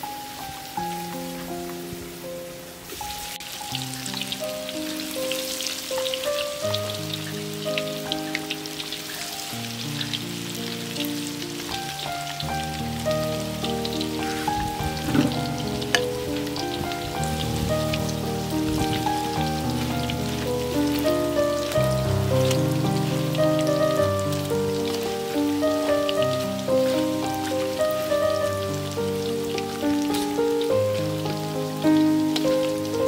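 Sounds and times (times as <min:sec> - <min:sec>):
fish deep-frying in hot oil: 0:00.0 - 0:33.0
slow background music: 0:00.0 - 0:33.0.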